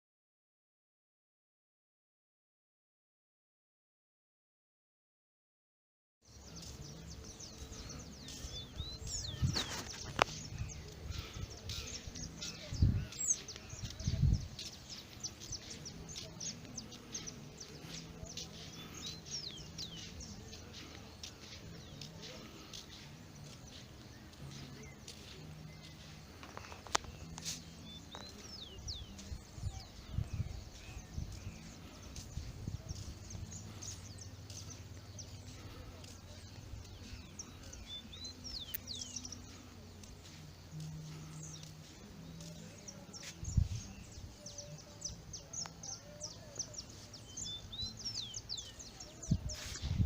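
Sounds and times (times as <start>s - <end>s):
birds chirping: 6.2s - 50.0s
low outdoor noise: 6.2s - 50.0s.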